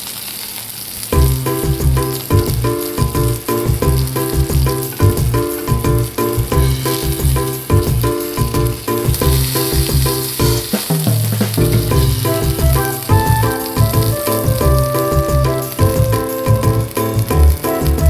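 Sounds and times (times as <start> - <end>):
chicken sizzling in a pan: 0.0 - 18.0
music with beat and bass: 1.2 - 18.0.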